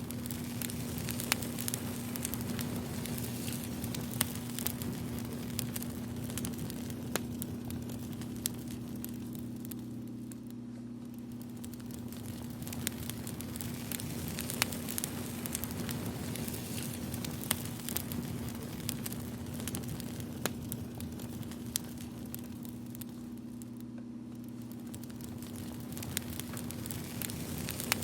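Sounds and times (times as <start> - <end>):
faint low hum: 0.0 - 28.0
wood fire crackling: 0.0 - 28.0.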